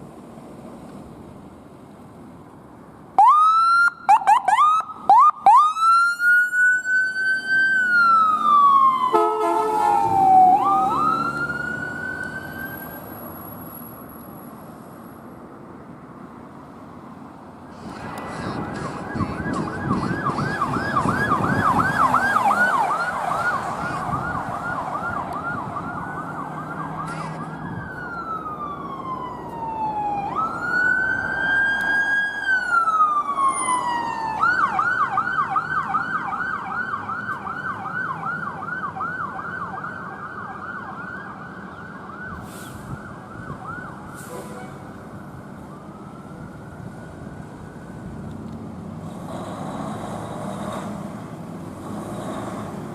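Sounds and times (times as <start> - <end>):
emergency vehicle siren: 3.1 - 14.2, 17.6 - 49.0.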